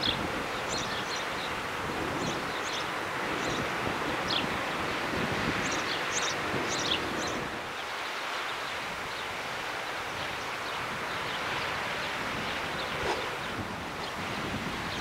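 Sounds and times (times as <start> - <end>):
wind on microphone: 0.0 - 8.0, 8.6 - 15.0.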